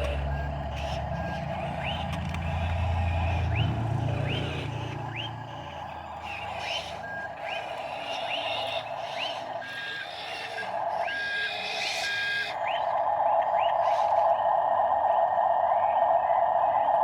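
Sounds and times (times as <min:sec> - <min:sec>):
small electric motors whining: 0:00.0 - 0:16.4.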